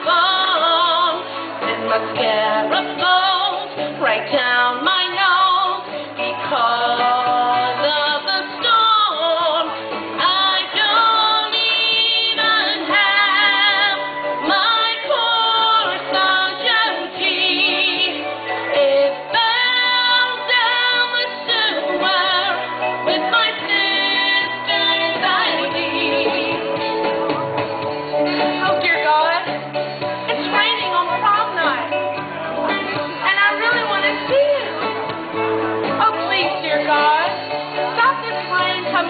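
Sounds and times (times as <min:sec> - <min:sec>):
woman singing: 0:00.0 - 0:26.9, 0:28.6 - 0:29.6, 0:30.3 - 0:32.0, 0:32.6 - 0:35.0, 0:35.9 - 0:39.0
pop backing band: 0:00.0 - 0:39.0.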